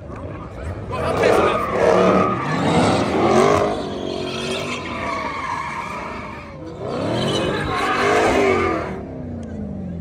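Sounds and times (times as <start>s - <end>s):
tires skidding: 0.2s - 9.2s
car engine revving: 0.7s - 10.0s.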